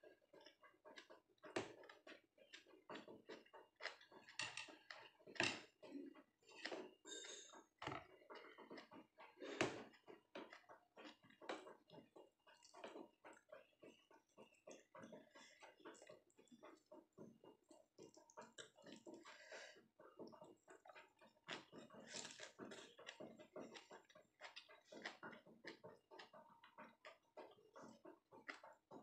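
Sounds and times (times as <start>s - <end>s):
chewing and lip smacks: 0.3s - 29.0s.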